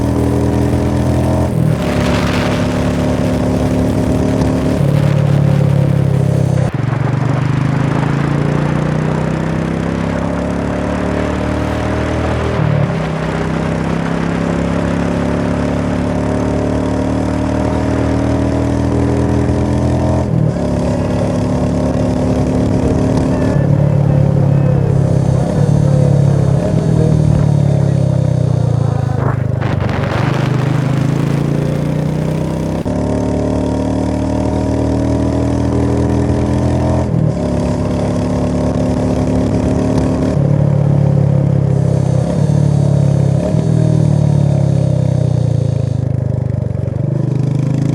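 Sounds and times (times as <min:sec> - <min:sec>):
vehicle engine driving: 0:00.0 - 0:47.9.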